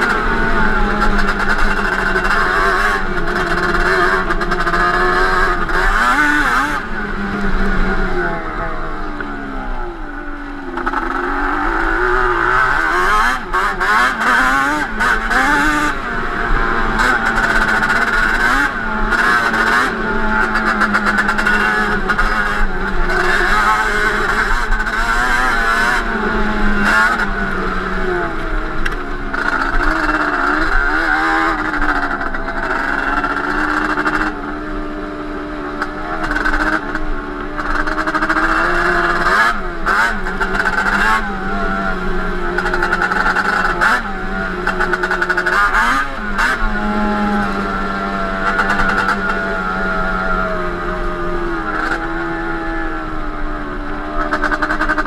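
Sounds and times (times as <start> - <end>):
two-stroke engine revving: 0.0 - 55.0.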